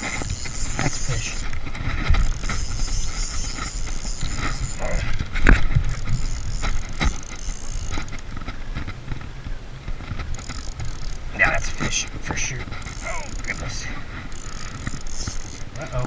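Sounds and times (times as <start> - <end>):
fishing reel cranking: 0.0 - 8.4, 10.1 - 16.0.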